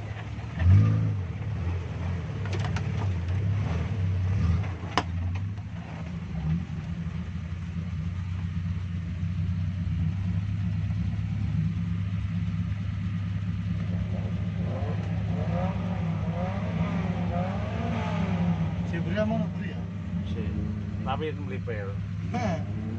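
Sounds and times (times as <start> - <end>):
vehicle engine running at low revs: 0.0 - 22.9.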